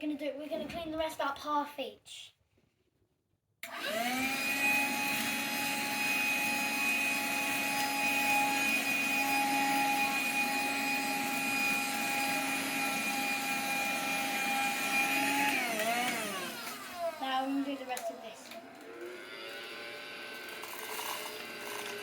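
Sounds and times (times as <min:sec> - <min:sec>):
handheld vacuum cleaner whine: 0:03.6 - 0:22.0.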